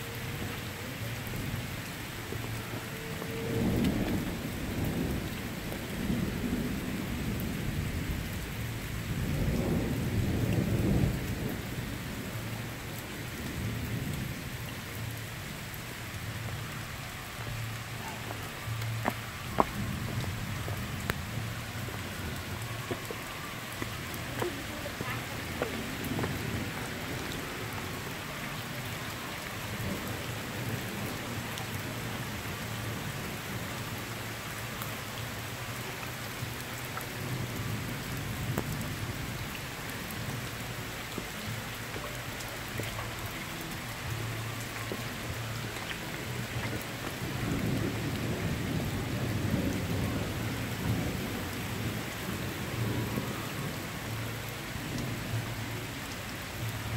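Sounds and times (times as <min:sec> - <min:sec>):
rain on stone paving: 0:00.0 - 0:56.9.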